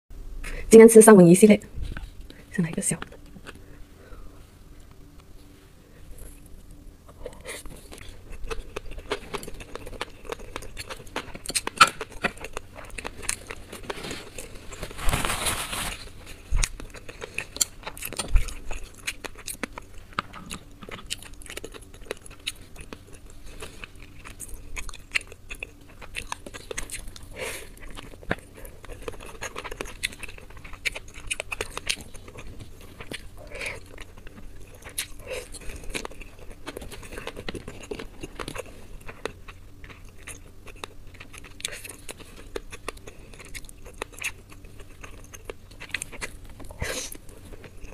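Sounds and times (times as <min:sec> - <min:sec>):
wet chewing and smacking: 0:06.1 - 0:15.0, 0:16.2 - 0:47.9.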